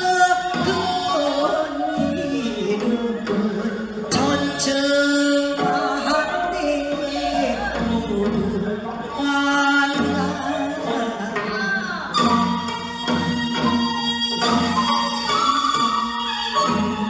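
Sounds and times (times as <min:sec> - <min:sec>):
group singing folk song: 0:00.0 - 0:17.0.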